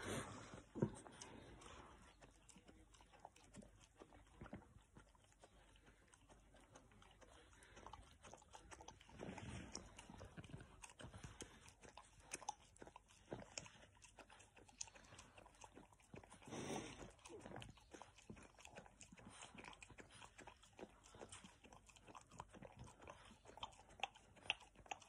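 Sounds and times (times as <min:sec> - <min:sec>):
puppy licking wet lapping: 0:00.4 - 0:25.0.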